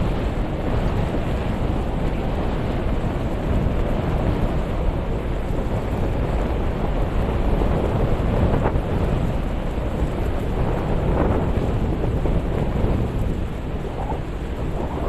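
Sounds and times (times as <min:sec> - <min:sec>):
ocean surf: 0:00.0 - 0:15.0
wind rumbling on microphone: 0:00.0 - 0:15.0.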